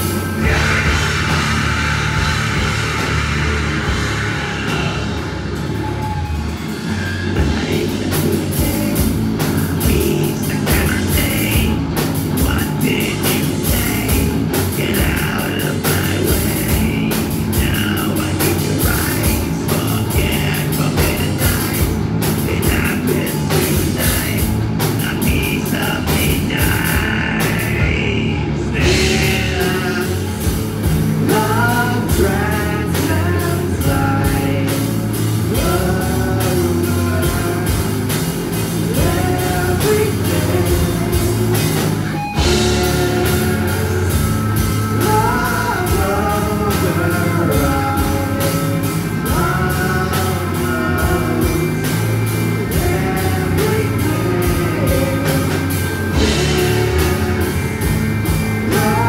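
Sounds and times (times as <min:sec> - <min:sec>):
person singing: 0:00.0 - 0:06.0, 0:07.3 - 0:30.6, 0:31.2 - 0:59.0
bass guitar: 0:00.0 - 0:59.0
drum kit: 0:00.0 - 0:59.0
electric guitar: 0:00.0 - 0:59.0.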